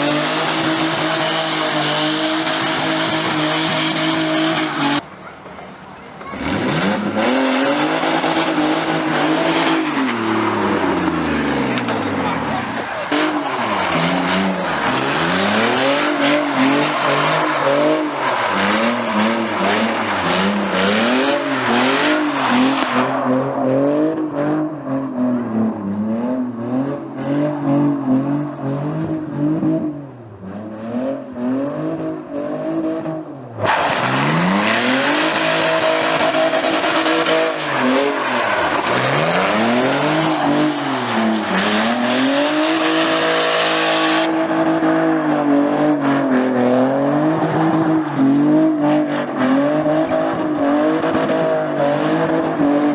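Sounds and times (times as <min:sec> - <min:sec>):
car engine revving: 0:00.0 - 0:52.9
tyres squealing and skidding: 0:00.0 - 0:52.9.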